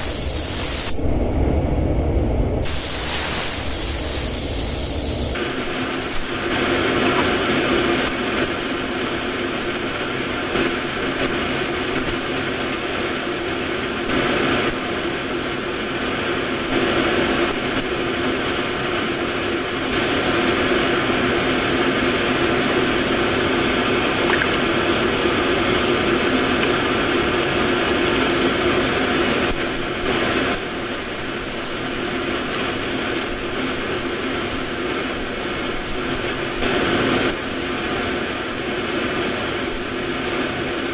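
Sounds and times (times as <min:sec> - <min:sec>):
whirring machine hum: 0:00.0 - 0:40.9.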